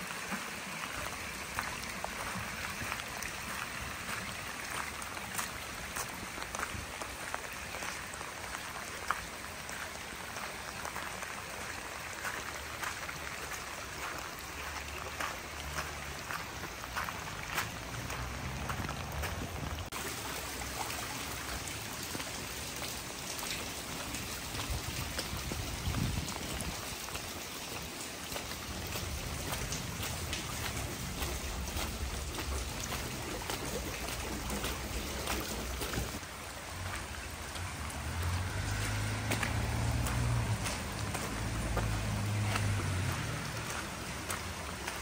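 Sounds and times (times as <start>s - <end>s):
rain pattering: 0.0s - 45.0s
runoff water rushing: 0.0s - 45.0s.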